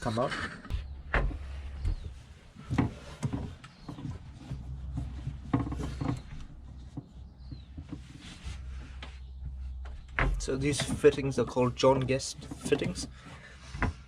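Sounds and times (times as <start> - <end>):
handling knocks and rustles: 0.2 - 14.0
low steady hum: 0.7 - 14.0.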